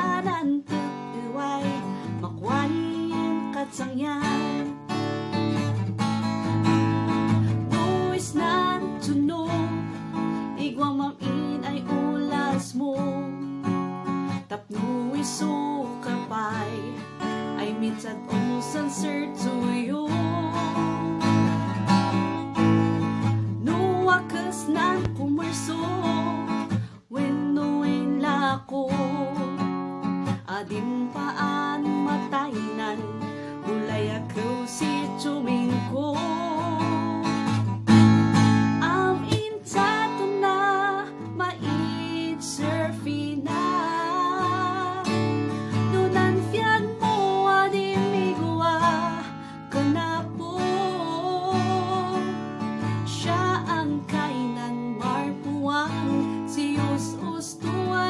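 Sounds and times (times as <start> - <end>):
woman singing with vibrato: 0.0 - 4.8, 7.3 - 13.6, 14.3 - 21.6, 23.5 - 37.8, 38.5 - 58.0
strummed acoustic guitar: 0.0 - 58.0.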